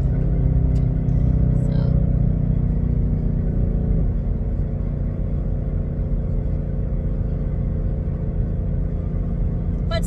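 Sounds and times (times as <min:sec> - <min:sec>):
car engine running: 0:00.0 - 0:10.0
low road rumble: 0:00.0 - 0:10.0.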